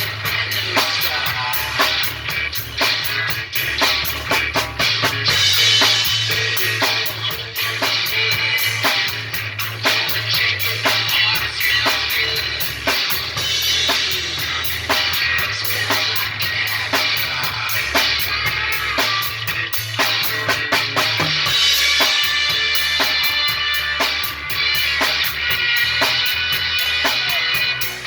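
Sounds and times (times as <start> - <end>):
drum kit beat: 0.0 - 28.0
instrumental rock music: 0.0 - 28.0.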